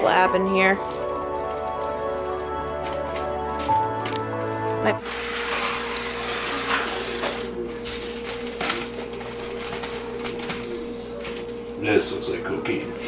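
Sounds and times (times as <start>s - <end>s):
steady hum: 0.0s - 13.0s
plastic bags crinkling: 0.1s - 11.7s.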